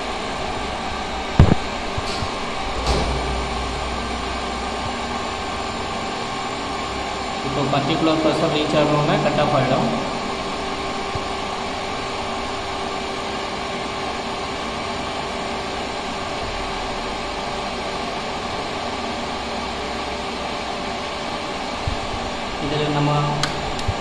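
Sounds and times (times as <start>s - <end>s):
electric water pump running: 0.0s - 22.6s.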